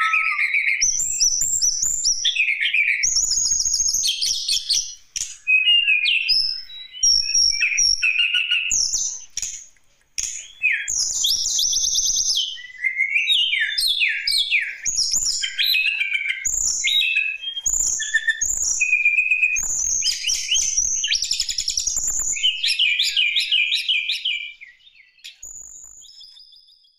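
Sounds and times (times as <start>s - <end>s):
songbird singing chirps and trills: 0.0s - 26.9s.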